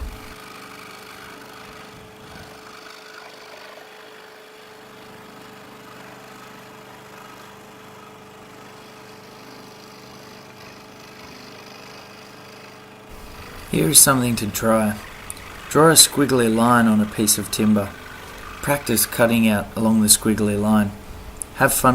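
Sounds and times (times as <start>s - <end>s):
faint machine hum with whine: 0.0s - 0.4s, 4.5s - 21.9s.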